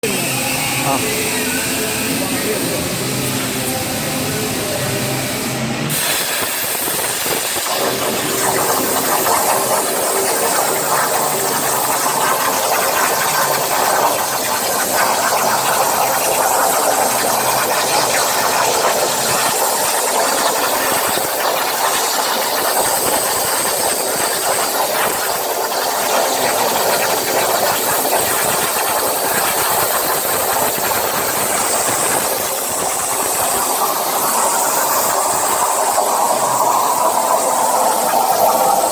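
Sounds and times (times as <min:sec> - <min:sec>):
plasma cutting torch hissing: 0:00.0 - 0:38.9.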